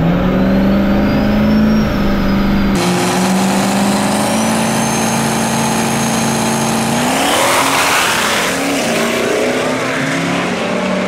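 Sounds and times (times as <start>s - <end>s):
diesel pickup engines running: 0.0s - 11.0s.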